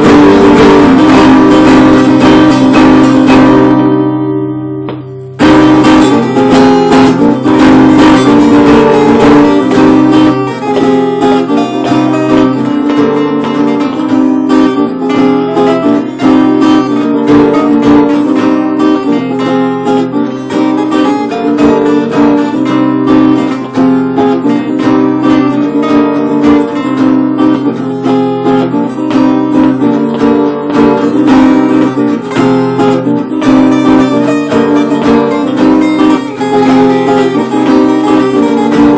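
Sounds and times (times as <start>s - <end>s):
acoustic guitar playing: 0.0s - 38.9s.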